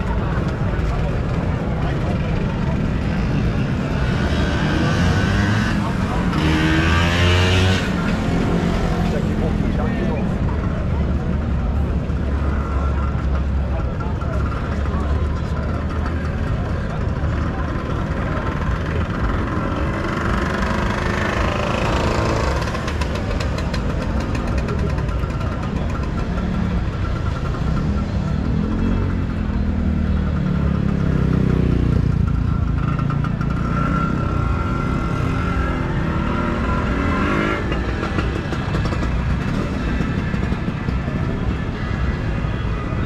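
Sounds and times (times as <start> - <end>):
motor scooters passing: 0.0 - 43.0.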